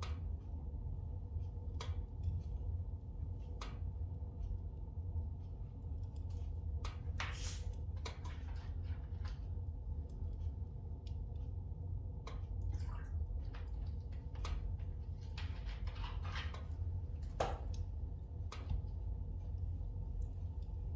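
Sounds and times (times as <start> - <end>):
low rumble of flames: 0.0 - 20.9.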